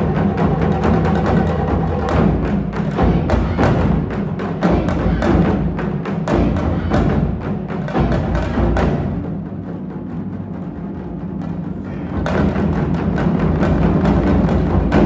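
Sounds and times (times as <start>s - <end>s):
ensemble of heavy drums: 0.0s - 15.0s.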